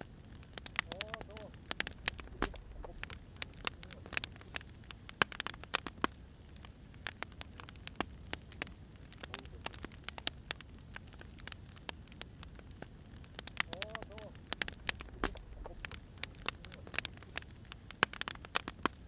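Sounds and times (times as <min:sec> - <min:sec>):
firewood crackling and popping: 0:00.0 - 0:19.0
low rush of flame: 0:00.0 - 0:19.0.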